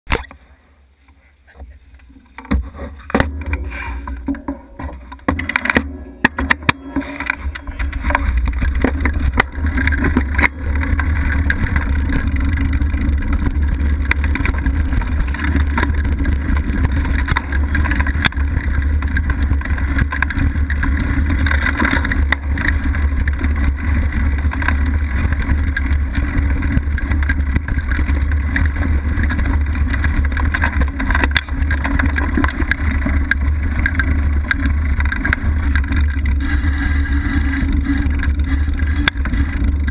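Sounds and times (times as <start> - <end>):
bike knocking and rattling: 1.1 - 39.9
tyres rolling over dirt and leaves: 1.2 - 39.9.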